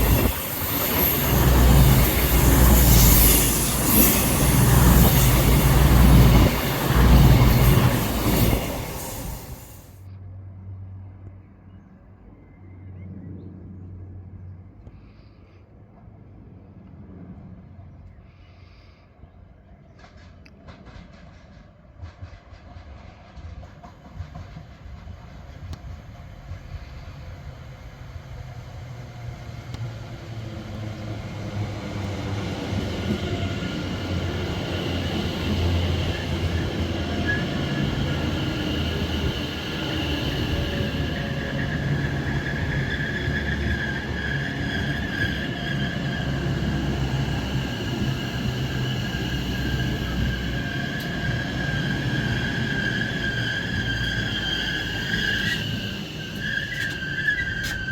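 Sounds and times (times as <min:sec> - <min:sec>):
passenger train passing: 0:00.0 - 0:10.0, 0:19.8 - 0:57.9.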